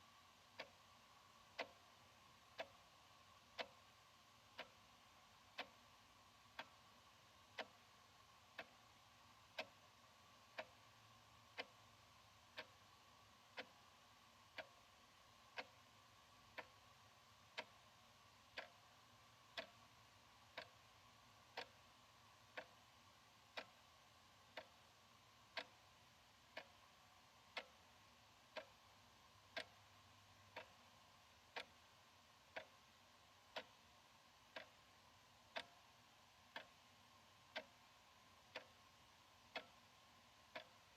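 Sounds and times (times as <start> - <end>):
faint steady hum: 0.0 - 40.9
wall clock ticking: 0.0 - 40.9.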